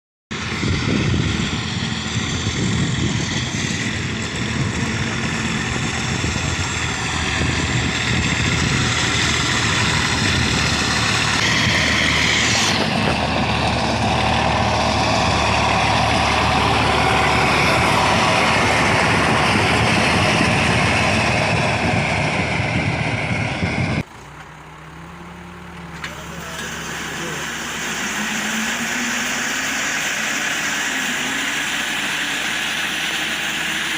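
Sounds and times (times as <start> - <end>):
tractor engine running: 0.3 - 33.9.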